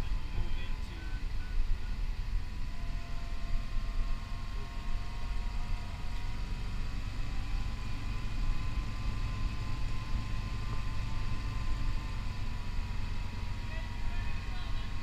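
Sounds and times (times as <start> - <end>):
vehicle motor running: 0.0 - 15.0.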